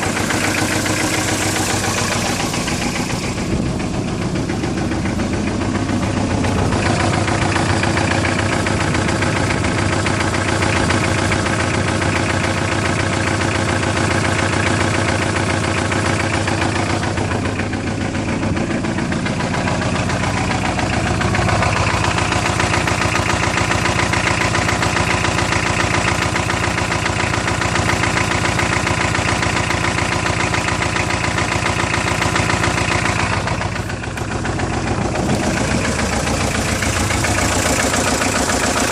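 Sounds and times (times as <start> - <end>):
engine idling with knock: 0.0 - 38.9.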